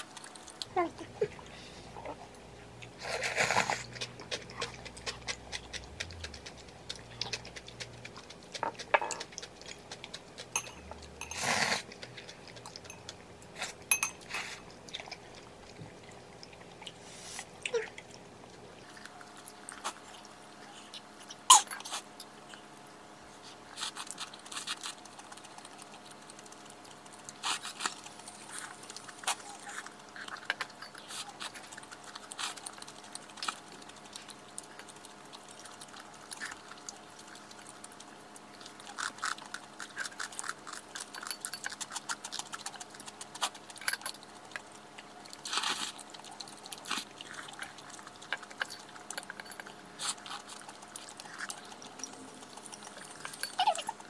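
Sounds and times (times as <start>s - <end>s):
chewing: 0.0s - 54.0s
faint steady hum: 0.0s - 54.0s.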